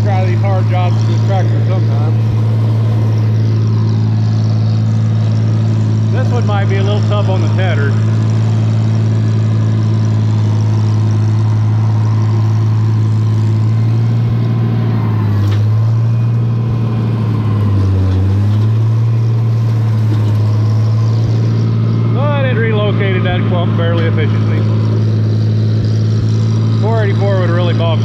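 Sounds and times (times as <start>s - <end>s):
tractor engine running under load: 0.0s - 28.0s.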